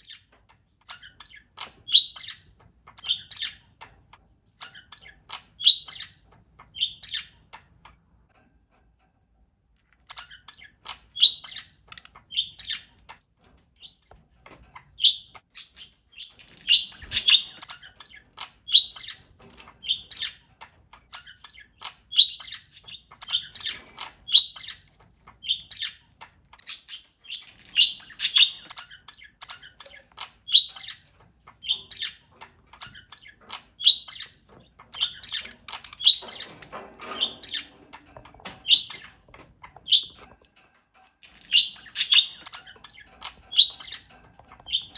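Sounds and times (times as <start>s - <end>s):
parakeet chirping: 0.0s - 8.0s, 9.9s - 44.9s.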